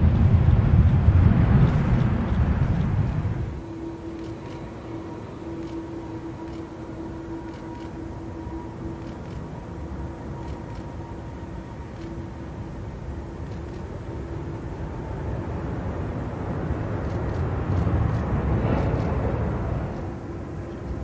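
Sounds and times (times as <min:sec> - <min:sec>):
faint hum: 0:00.0 - 0:21.0
jet engines rumbling: 0:00.0 - 0:21.0.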